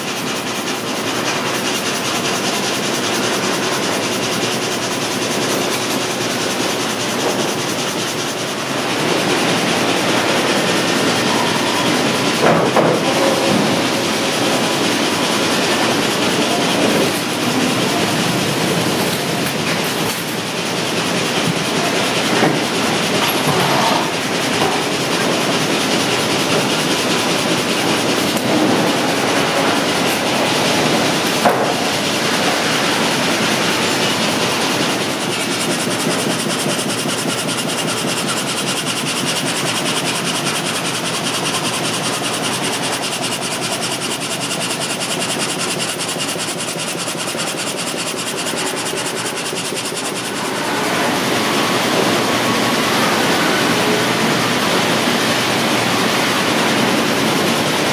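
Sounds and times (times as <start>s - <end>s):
frame saw running: 0.0s - 57.9s.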